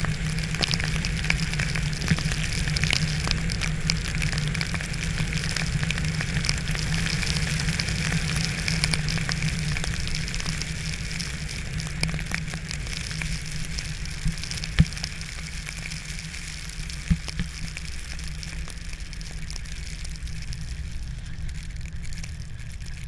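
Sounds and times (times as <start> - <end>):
low steady rumble: 0.0 - 23.0
rain patter on outdoor surfaces: 0.0 - 23.0.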